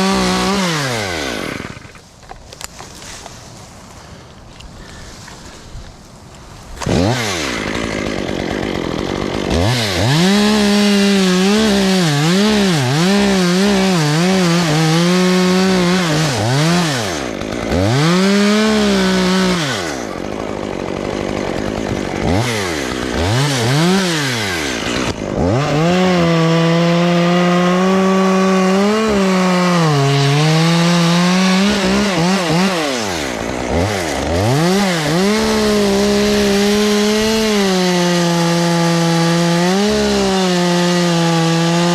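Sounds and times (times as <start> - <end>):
chainsaw revving: 0.0 - 3.3, 6.7 - 41.9.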